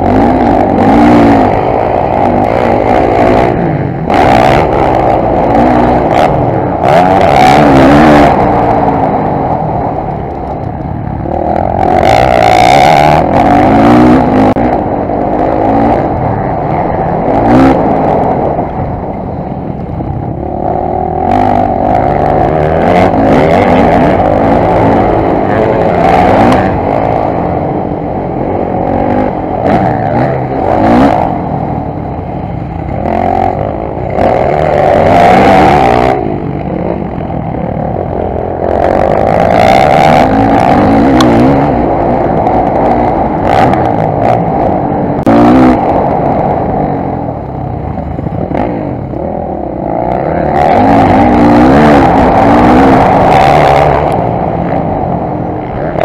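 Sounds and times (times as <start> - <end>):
dirt bike engine revving: 0.0 - 56.0
rushes of noise and clatter: 0.0 - 56.0.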